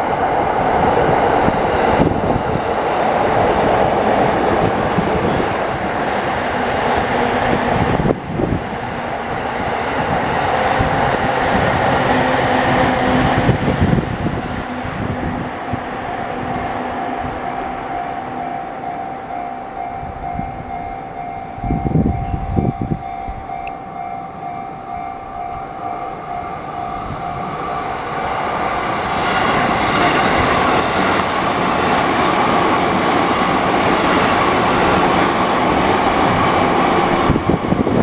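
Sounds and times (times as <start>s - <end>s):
train wheels on rails: 0.0s - 38.0s.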